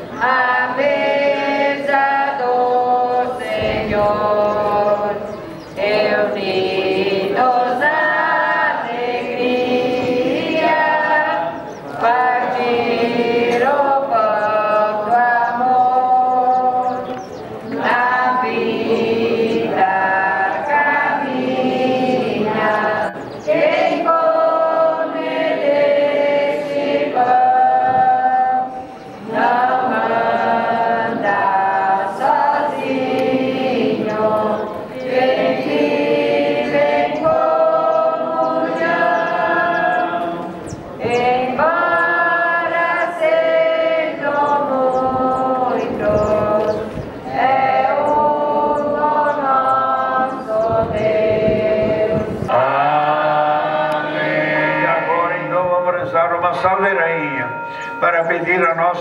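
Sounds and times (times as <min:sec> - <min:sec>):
group singing a hymn: 0:00.0 - 0:59.0.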